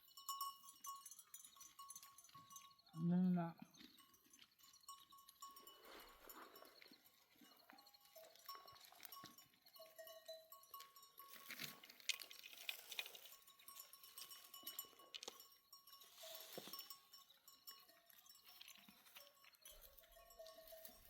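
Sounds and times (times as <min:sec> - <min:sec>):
ringing sheep bells: 0:00.0 - 0:21.0
sheep grazing: 0:00.0 - 0:21.0.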